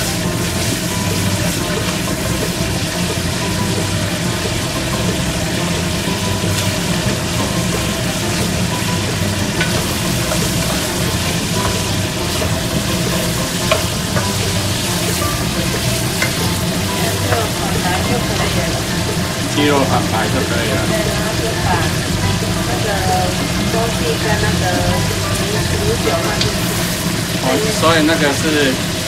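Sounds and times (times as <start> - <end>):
wooden spatula knocking pan: 0.0 - 27.4
meat sizzling in oil: 0.0 - 29.0.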